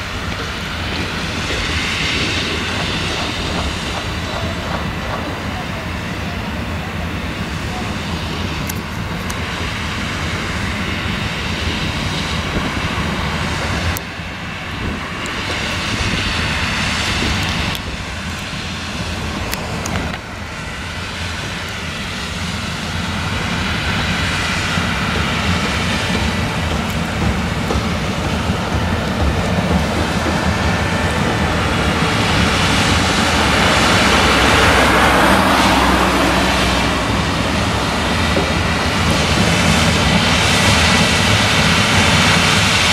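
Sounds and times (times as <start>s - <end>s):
combine harvester engine drone: 0.0s - 42.9s.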